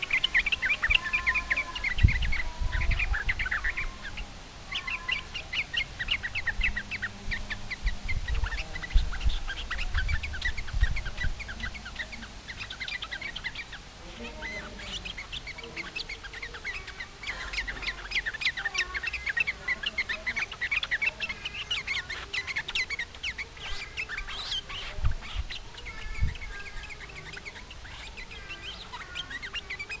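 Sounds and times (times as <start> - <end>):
birds chattering calls: 0.0 - 30.0.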